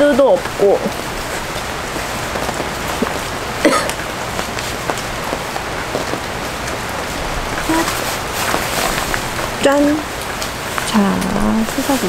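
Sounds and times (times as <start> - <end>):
heavy rain on a canopy: 0.0 - 12.0.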